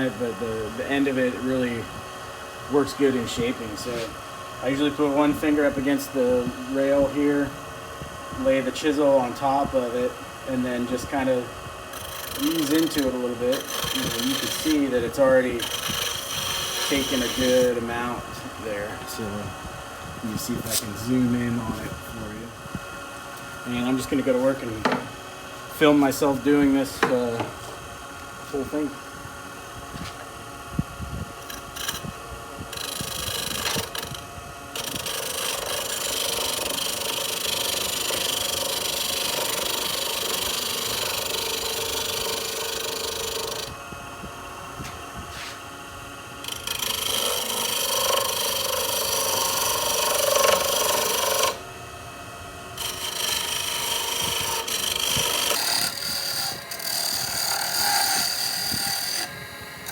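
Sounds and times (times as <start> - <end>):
chisel scraping spinning wood: 0.0 - 7.6, 8.2 - 22.6, 23.3 - 27.8, 31.2 - 43.8, 44.8 - 45.7, 46.4 - 51.7, 52.7 - 59.9
wood lathe running: 0.0 - 22.6, 23.6 - 29.0, 31.4 - 43.8, 45.3 - 59.9.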